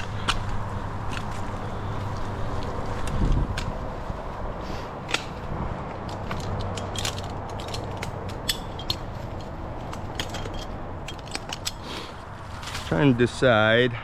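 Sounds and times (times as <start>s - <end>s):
climbing hardware clicking: 0.0s - 4.0s, 5.0s - 12.8s
low background hum: 0.0s - 14.0s.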